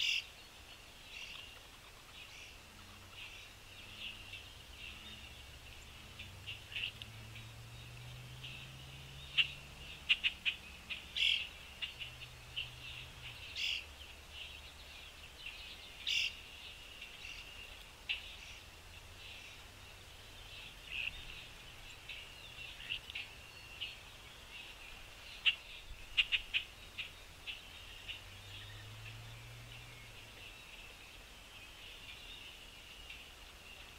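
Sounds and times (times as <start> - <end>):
small songbirds chirping: 0.0 - 33.9.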